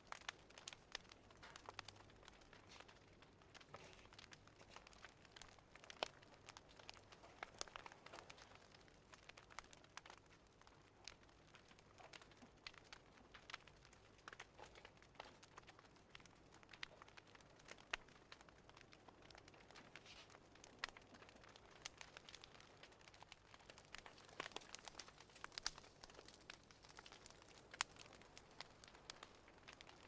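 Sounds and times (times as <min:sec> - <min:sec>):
fire crackling: 0:00.0 - 0:30.0
sharp pops and snaps: 0:00.0 - 0:30.0.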